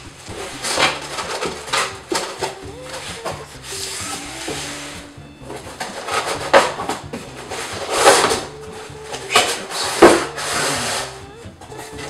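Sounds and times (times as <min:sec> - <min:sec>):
cardboard scraping and rubbing: 0:00.2 - 0:11.2.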